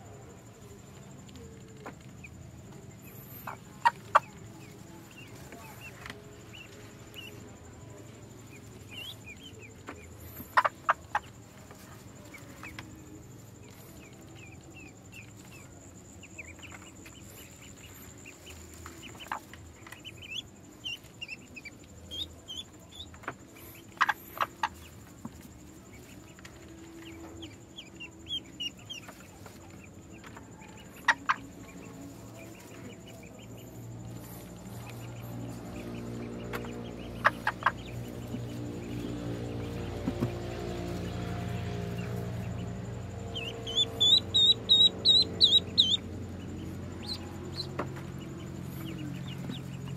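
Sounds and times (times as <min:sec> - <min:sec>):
ducklings peeping: 0:00.0 - 0:49.9.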